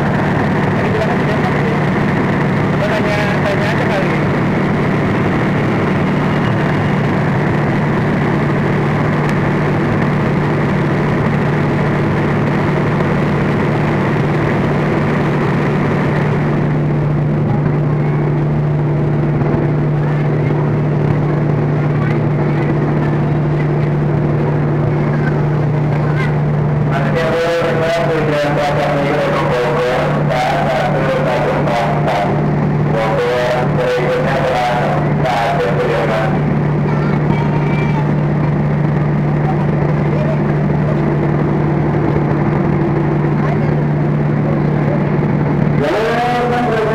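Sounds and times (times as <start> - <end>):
low drone of trains: 0.0 - 46.9.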